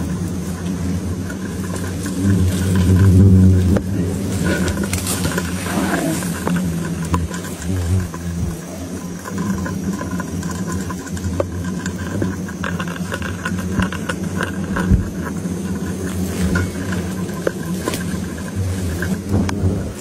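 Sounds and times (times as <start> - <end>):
paper nest crackling: 0.0 - 20.0.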